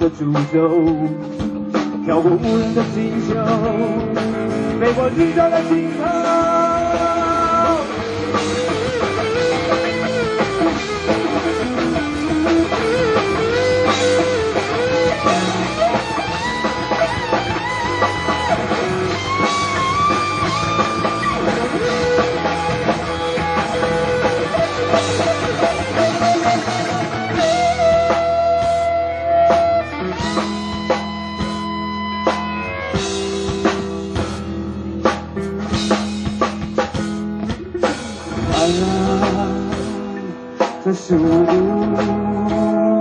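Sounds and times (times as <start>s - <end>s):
drum kit: 0.0s - 43.0s
electric guitar lead melody: 0.0s - 43.0s.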